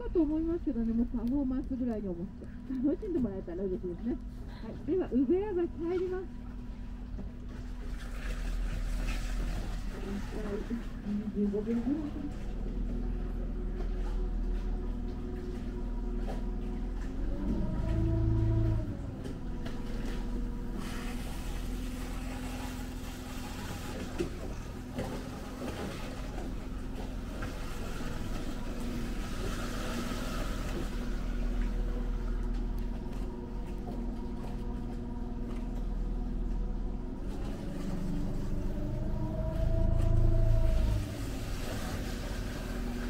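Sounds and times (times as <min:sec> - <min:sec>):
small outboard motor running: 0:00.0 - 0:43.0.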